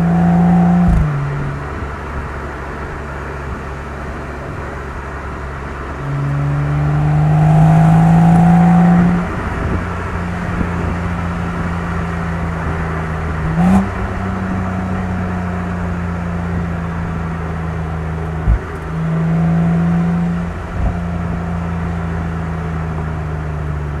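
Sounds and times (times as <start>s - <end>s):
car engine accelerating: 0.0s - 24.0s
road noise: 0.0s - 24.0s.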